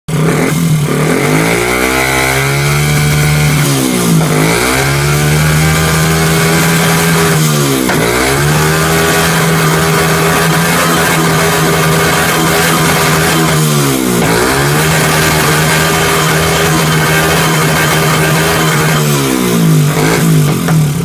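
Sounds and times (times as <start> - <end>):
small buggy engine running: 0.1 - 21.0.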